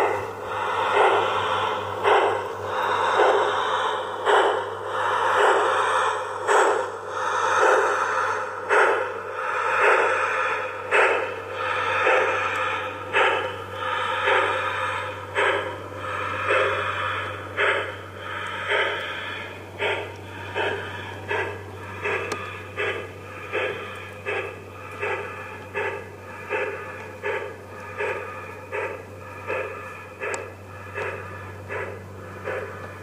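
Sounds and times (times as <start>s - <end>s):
model steam locomotive chuffing: 0.0s - 33.0s
steady low hum: 0.0s - 33.0s.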